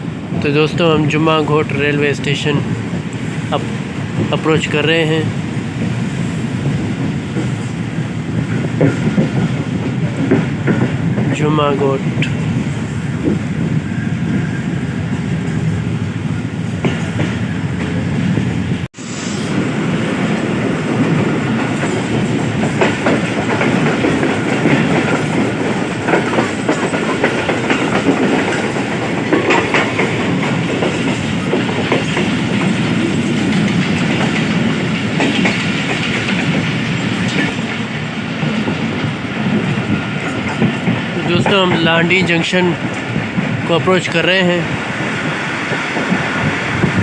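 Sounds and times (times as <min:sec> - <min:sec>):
train carriage rumble: 0:00.0 - 0:47.0
wheels clattering over rail joints: 0:02.6 - 0:18.7, 0:20.4 - 0:47.0.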